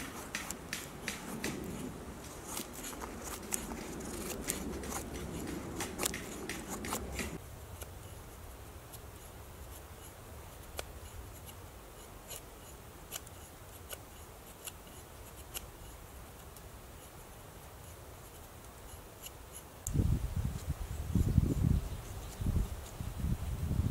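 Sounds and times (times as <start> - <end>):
knife scraping wood: 0.0 - 8.3, 8.9 - 19.7.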